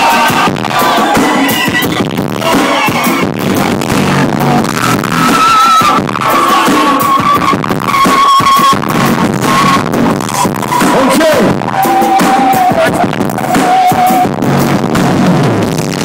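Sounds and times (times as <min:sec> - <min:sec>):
live drum and bass rock music: 0:00.0 - 0:16.0.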